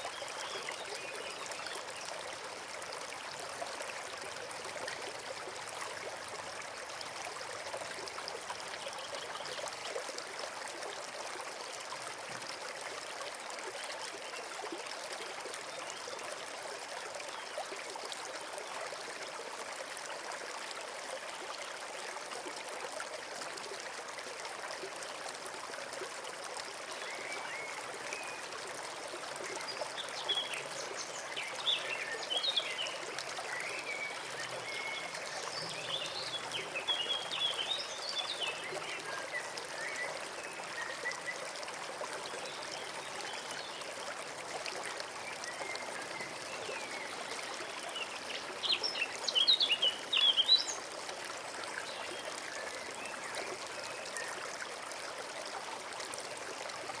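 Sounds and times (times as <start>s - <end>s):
stream trickling and babbling: 0.0s - 57.0s.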